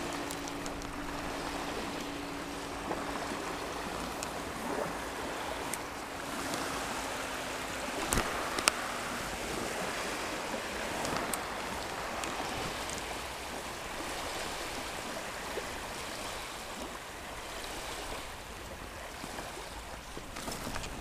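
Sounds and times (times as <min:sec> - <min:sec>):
small waves lapping: 0:00.0 - 0:21.0
wind on microphone: 0:00.0 - 0:21.0.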